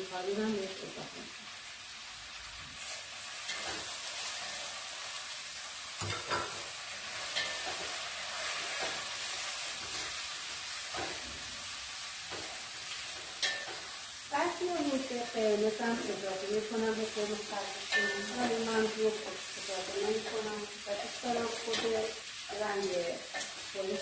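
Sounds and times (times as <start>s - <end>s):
chicken and onion sizzling in oil: 0.0s - 24.0s.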